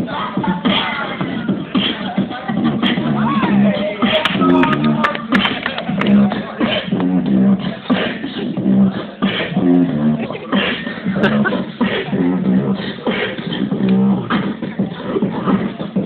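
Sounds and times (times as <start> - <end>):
beatboxing through small speaker: 0.0 - 16.0.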